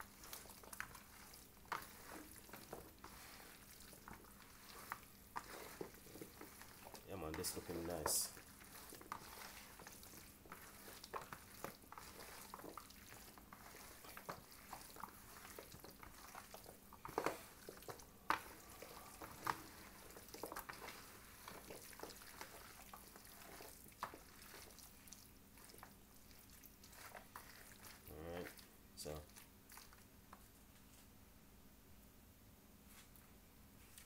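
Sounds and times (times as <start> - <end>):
hands squelching wet chicken: 0.0 - 30.1.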